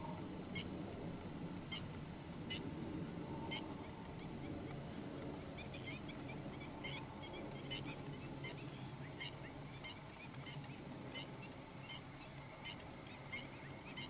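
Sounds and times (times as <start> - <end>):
steady low background rumble: 0.0 - 14.0
birds chirping: 1.6 - 14.0.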